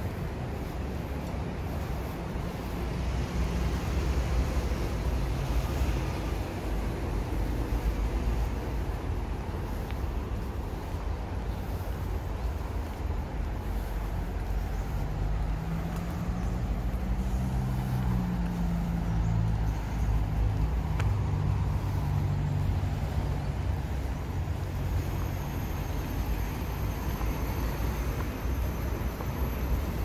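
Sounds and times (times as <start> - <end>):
heavy vehicle engine drone: 0.0 - 30.0
road traffic rumble: 0.0 - 30.0.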